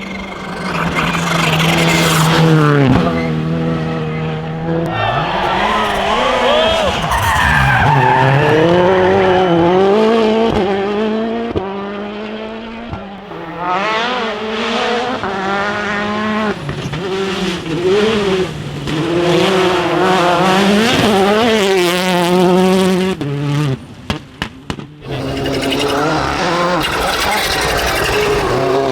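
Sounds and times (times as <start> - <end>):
rally car engines revving: 0.0 - 28.9.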